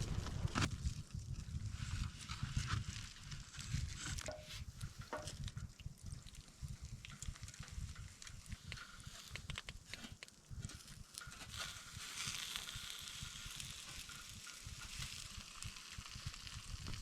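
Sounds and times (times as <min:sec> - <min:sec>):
wind buffeting microphone: 0:00.0 - 0:11.1, 0:12.7 - 0:17.0
small clicks and crunches: 0:00.1 - 0:17.0.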